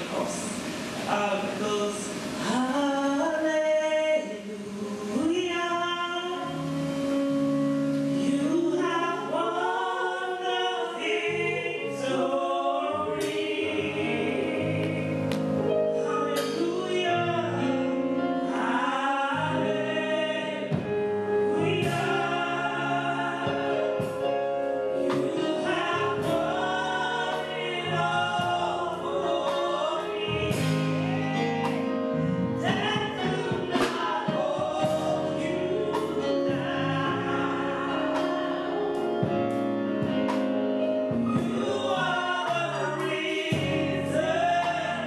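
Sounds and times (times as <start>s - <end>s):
drums: 0.0s - 9.3s, 13.1s - 18.7s, 19.4s - 45.0s
woman singing gospel song: 0.0s - 40.5s, 41.3s - 45.0s
keyboard: 0.0s - 45.0s
voices singing along: 0.0s - 45.0s.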